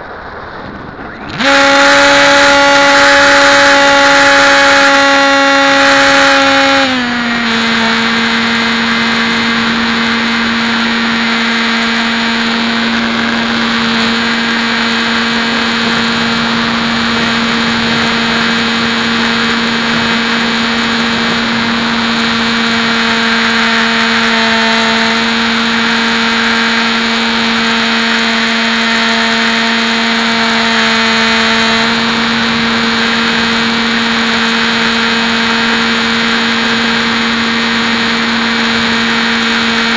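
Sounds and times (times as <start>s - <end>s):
electric motor propeller whining: 0.0s - 39.9s.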